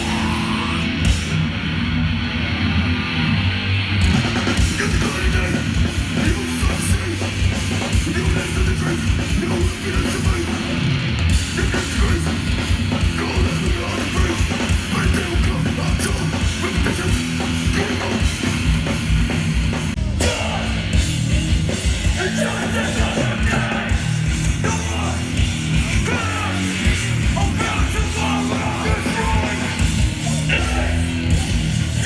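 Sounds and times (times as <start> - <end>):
fast dense drumming: 0.0 - 32.0
heavy distorted electric guitars: 0.0 - 32.0.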